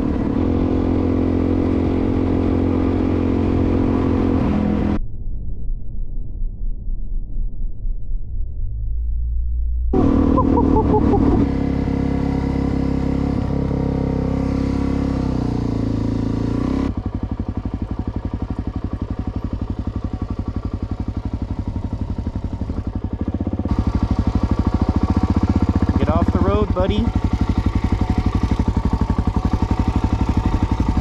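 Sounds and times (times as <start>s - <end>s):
motorcycle engine running: 0.0s - 5.0s, 9.9s - 31.0s.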